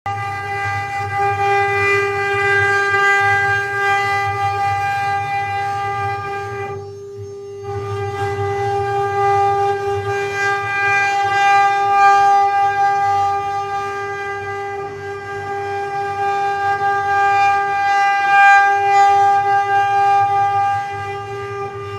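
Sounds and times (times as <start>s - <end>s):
engraving machine spindle whine: 0.1s - 21.9s
low hum: 0.1s - 21.9s.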